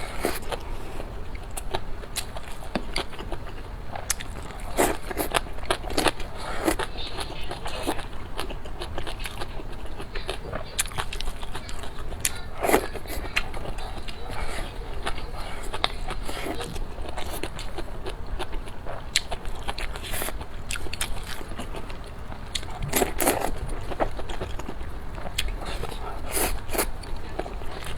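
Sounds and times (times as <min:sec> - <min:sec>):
biting and chewing food: 0:00.0 - 0:27.9.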